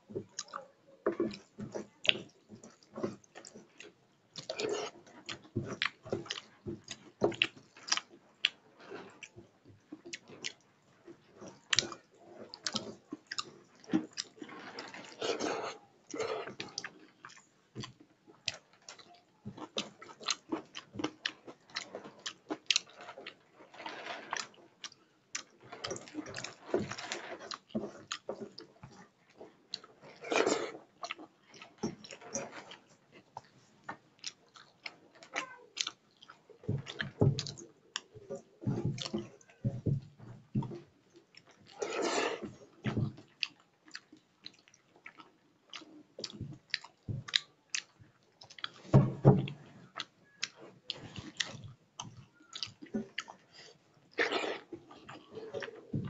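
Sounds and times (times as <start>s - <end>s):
person chewing and lip-smacking: 0.3s - 9.4s, 11.4s - 23.4s, 24.3s - 32.7s, 34.2s - 39.6s, 40.6s - 56.0s.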